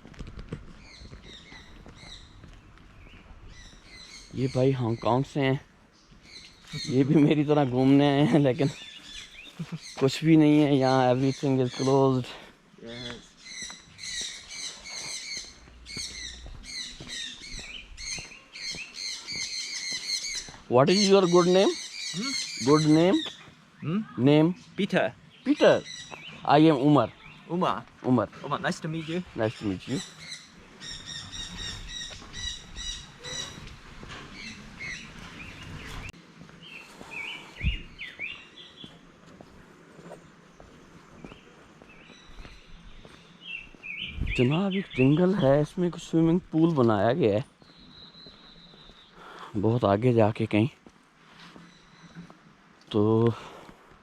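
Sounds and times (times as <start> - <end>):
small birds chirping: 0.2 - 54.0.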